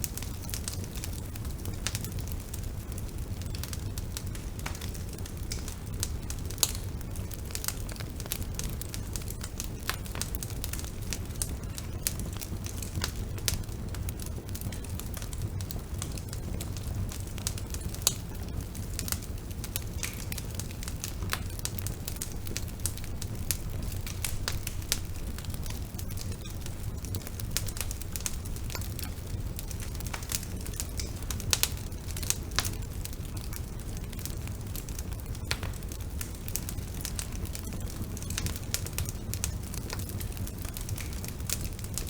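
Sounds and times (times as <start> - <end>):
bonfire crackling and popping: 0.0 - 42.0.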